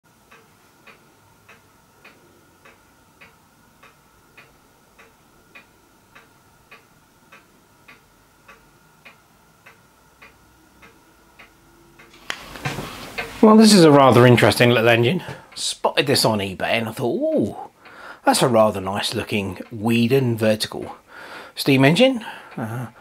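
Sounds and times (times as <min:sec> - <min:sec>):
clock ticking: 0:00.1 - 0:12.3, 0:13.0 - 0:23.0
faint steady hum: 0:00.1 - 0:23.0.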